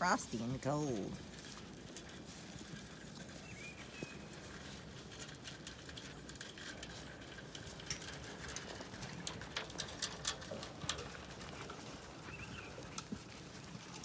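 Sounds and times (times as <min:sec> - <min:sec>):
sheep crunching feed: 0:00.0 - 0:14.0.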